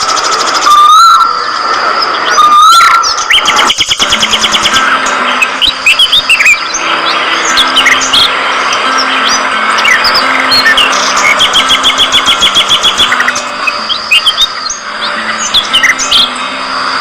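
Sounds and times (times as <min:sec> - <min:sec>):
budgerigars chirping: 0:00.4 - 0:16.4.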